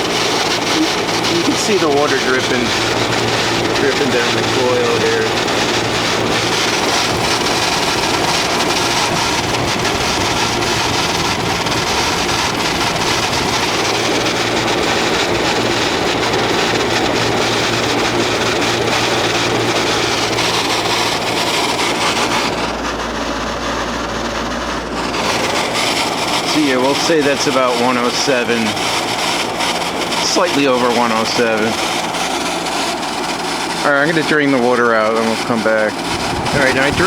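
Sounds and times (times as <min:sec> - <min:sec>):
air conditioner fan rushing: 0:00.0 - 0:37.0.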